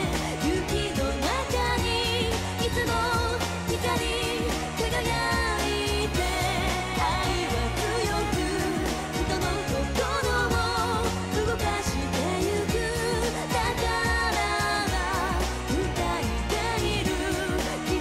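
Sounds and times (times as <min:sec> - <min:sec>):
chords and bass: 0:00.0 - 0:18.0
person singing with vibrato: 0:00.0 - 0:18.0.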